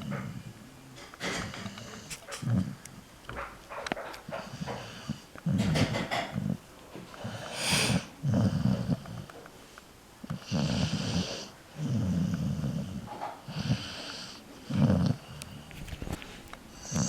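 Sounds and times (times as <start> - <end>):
dog snoring: 0.0 - 2.9, 4.0 - 9.4, 10.2 - 15.8, 16.7 - 17.0.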